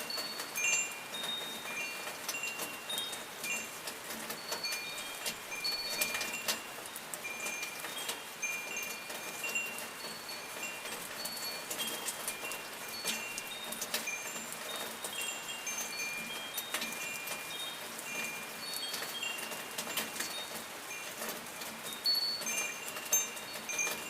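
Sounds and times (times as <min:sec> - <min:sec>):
rain falling: 0:00.0 - 0:24.0
sharp drips: 0:00.0 - 0:24.0
wind chimes tinkling: 0:00.0 - 0:24.0.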